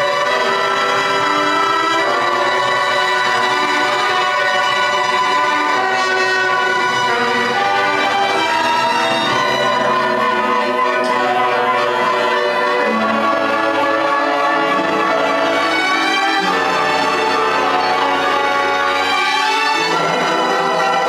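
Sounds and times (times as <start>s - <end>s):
bowed strings: 0.0s - 21.0s
brass: 0.0s - 21.0s
orchestra playing: 0.0s - 21.0s.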